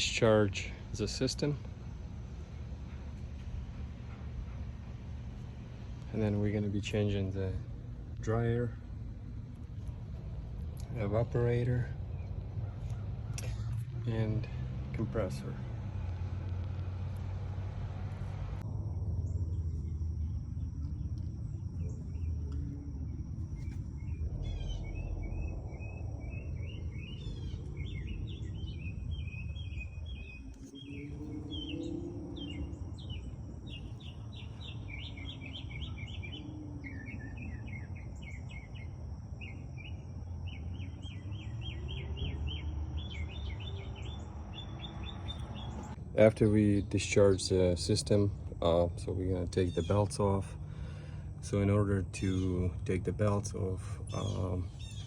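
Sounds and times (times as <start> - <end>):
small birds chirping: 0.0 - 55.0
steady low hum: 0.0 - 55.0.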